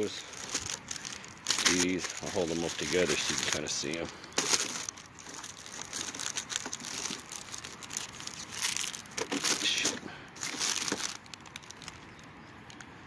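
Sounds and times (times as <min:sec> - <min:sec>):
plastic sleeves crinkling: 0:00.0 - 0:12.8.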